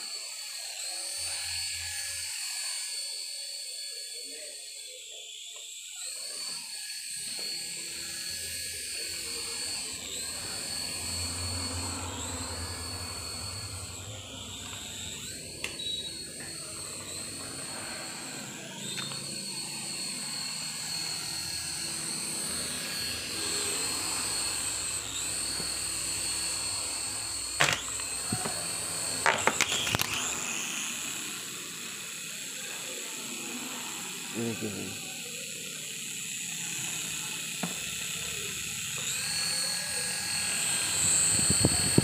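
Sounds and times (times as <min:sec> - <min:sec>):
toy helicopter motors whining: 0:00.0 - 0:42.0.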